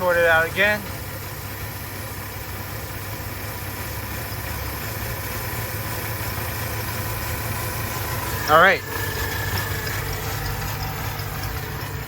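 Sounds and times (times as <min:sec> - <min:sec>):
engine idling with misfire: 0:00.0 - 0:12.0.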